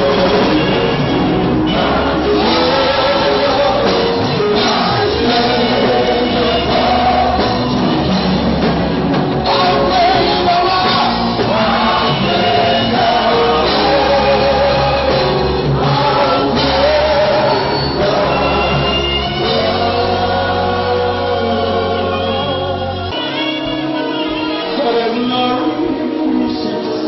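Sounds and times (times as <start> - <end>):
man singing lead into microphone: 0.0 - 8.2, 9.4 - 27.0
electric bass guitar: 0.0 - 26.8
congregation singing along: 0.0 - 27.0
drums: 0.0 - 27.0
keyboard: 0.0 - 27.0.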